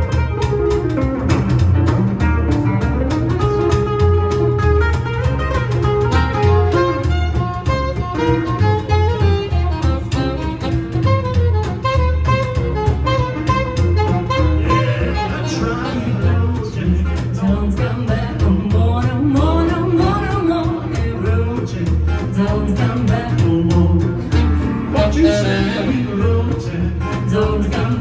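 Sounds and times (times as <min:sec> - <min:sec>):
jazz band playing: 0:00.0 - 0:28.0
walking bass: 0:00.0 - 0:28.0.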